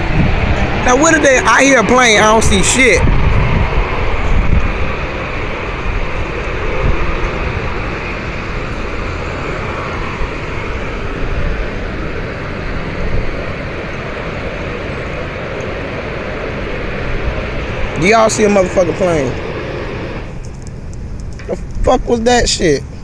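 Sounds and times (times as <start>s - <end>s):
distant rumbling roar: 0.0s - 23.0s.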